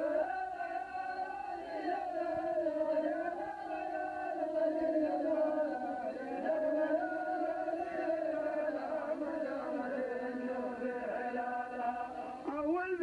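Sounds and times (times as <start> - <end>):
person chanting poetry: 0.0 - 13.0.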